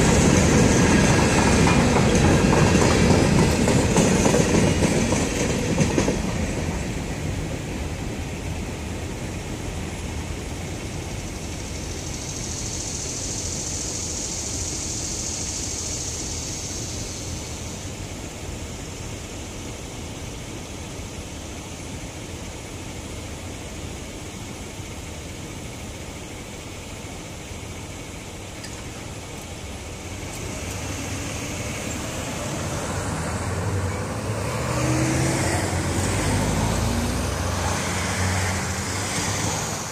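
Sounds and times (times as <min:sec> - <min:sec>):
vehicles driving over railroad crossing: 0:00.0 - 0:39.9.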